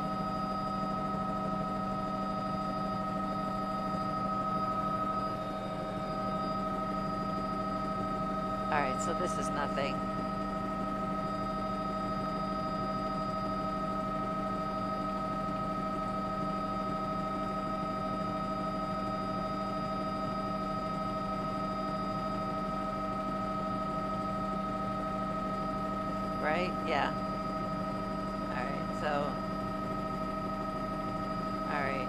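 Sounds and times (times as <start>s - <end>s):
constant whining tones: 0.0s - 16.5s, 22.4s - 32.0s
helicopter cabin drone: 0.0s - 32.0s.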